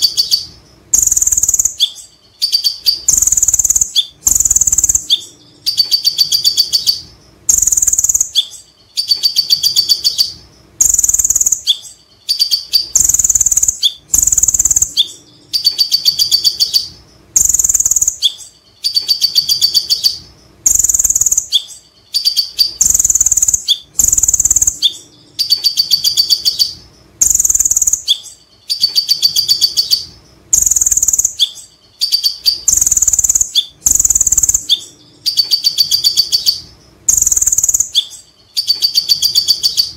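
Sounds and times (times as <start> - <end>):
sunbird singing: 0.0 - 39.9.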